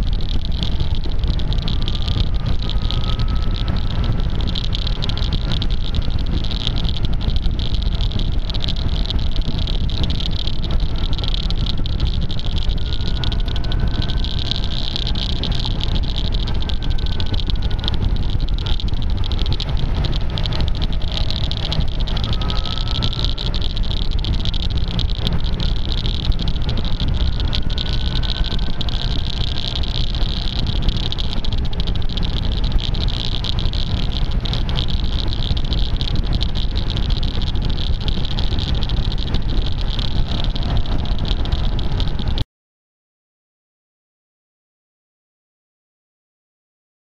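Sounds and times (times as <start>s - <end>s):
scooter engine running: 0.0s - 42.4s
wind noise: 0.0s - 42.4s
crackly clicking on microphone: 0.0s - 42.5s.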